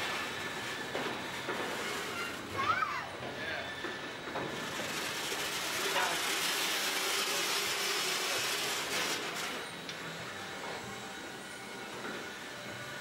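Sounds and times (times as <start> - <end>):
freight cars rattling on rails: 0.0 - 13.0.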